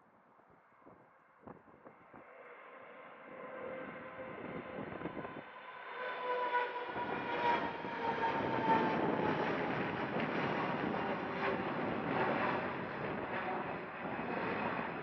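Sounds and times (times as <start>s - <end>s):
jet engine whine: 1.8s - 15.0s
jet engine roar: 2.4s - 15.0s.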